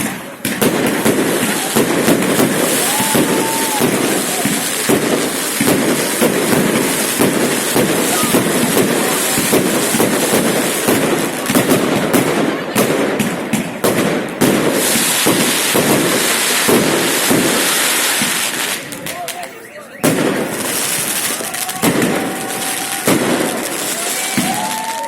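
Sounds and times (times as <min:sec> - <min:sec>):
fireworks crackling bangs: 0:00.0 - 0:25.0.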